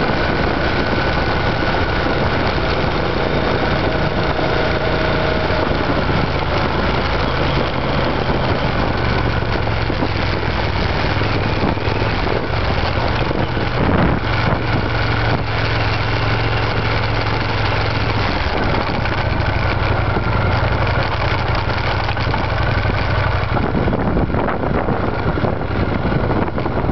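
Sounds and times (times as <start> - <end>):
motorcycle engine running: 0.0 - 26.9
wind and road noise: 0.0 - 26.9.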